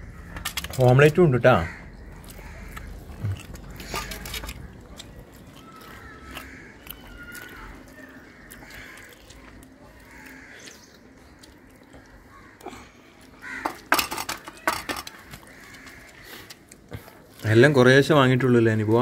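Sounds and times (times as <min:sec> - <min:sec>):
crows cawing: 0:00.0 - 0:17.6.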